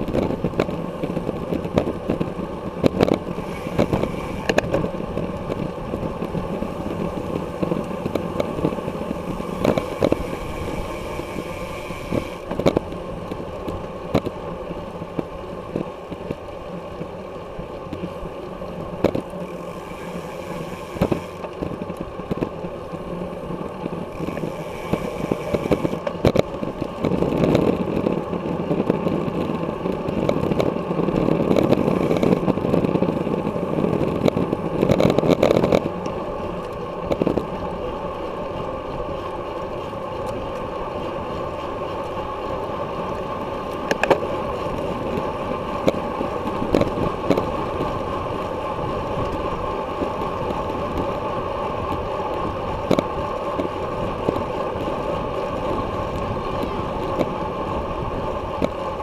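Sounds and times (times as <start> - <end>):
bike clicks and rattles: 0.0 - 59.0
tyre and road noise: 0.0 - 59.0
wind rush on microphone: 0.0 - 59.0.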